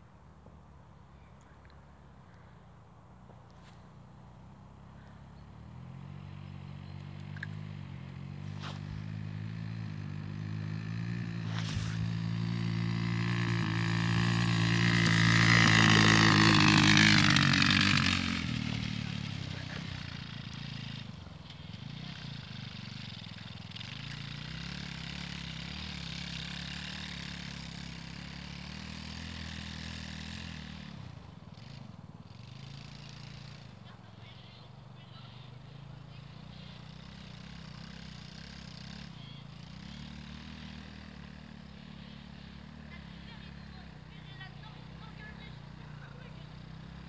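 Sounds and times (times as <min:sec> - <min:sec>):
buggy engine passing: 0:00.6 - 0:47.0.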